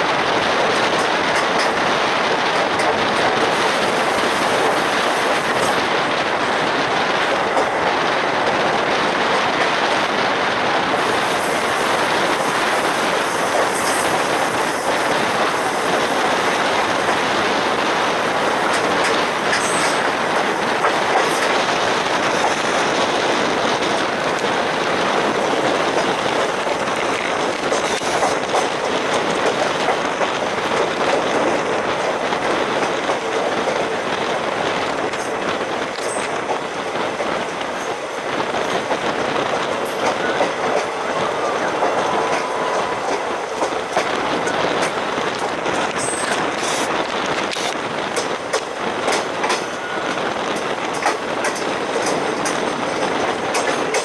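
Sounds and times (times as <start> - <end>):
clatter over rail joints: 0.0 - 54.0
train wheels on rails: 0.0 - 54.0.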